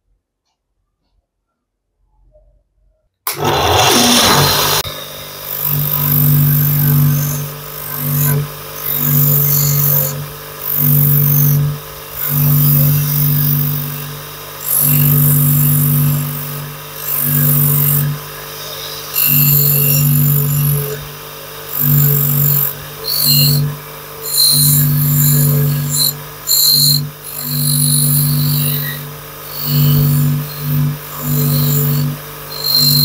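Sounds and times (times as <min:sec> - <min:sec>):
electric power tool running: 0:03.3 - 0:33.0.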